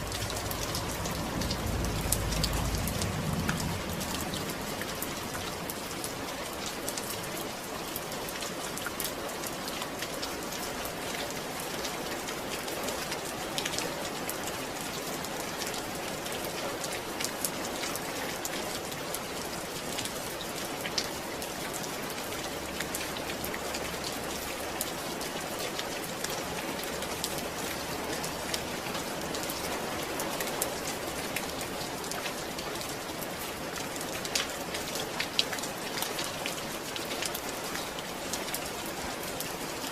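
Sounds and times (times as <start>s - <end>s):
raindrops striking close by: 0.0s - 39.9s
steady rain hissing: 0.0s - 39.9s.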